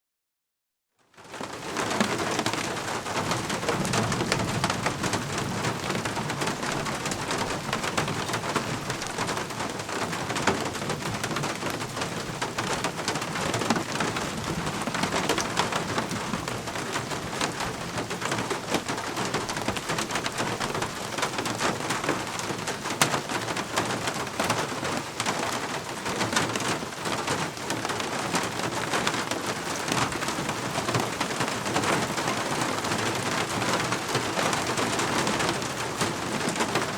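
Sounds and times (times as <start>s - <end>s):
steady rain falling: 1.0s - 36.9s.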